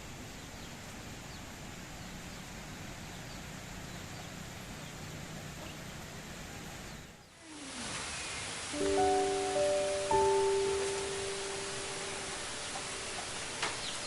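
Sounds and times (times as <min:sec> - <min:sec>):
rural outdoor background noise: 0:00.0 - 0:14.0.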